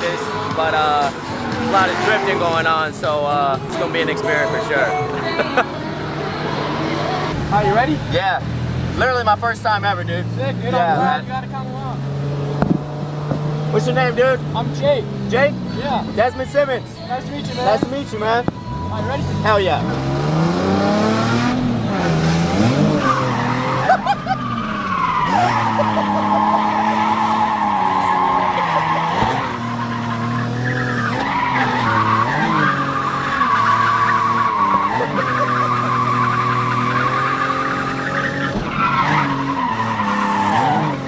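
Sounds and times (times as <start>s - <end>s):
car engine revving hard: 0.0s - 3.2s, 6.0s - 15.7s, 18.7s - 41.0s
tyres skidding and squealing: 0.0s - 41.0s.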